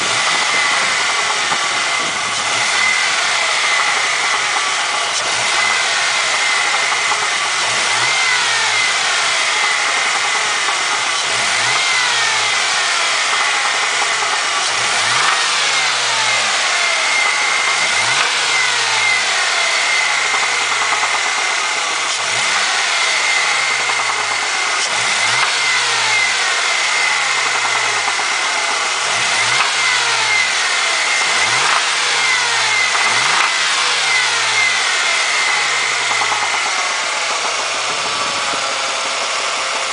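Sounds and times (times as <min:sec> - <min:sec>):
car engine revving: 0:00.0 - 0:39.9
steady high whine: 0:00.0 - 0:39.9.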